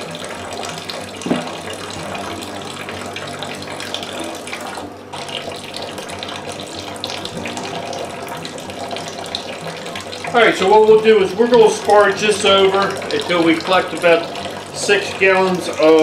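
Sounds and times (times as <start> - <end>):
liquid pouring into liquid: 0.0 - 16.0.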